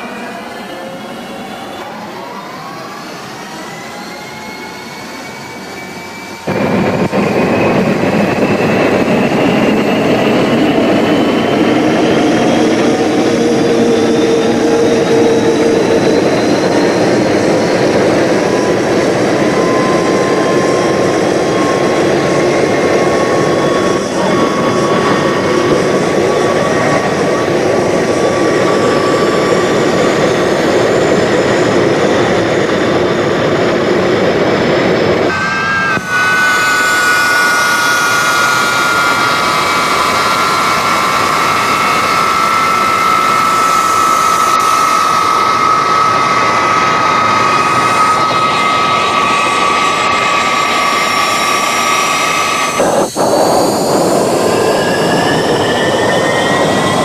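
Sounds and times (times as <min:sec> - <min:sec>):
jet engine roar and whine: 0:00.0 - 0:57.0.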